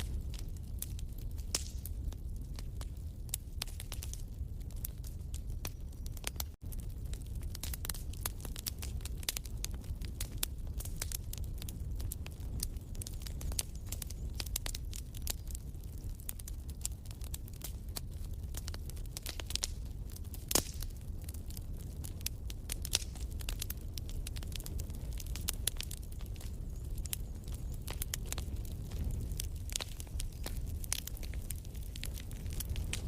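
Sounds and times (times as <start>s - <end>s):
low rumble of flames: 0.0s - 33.0s
wood fire crackling and popping: 0.0s - 33.0s.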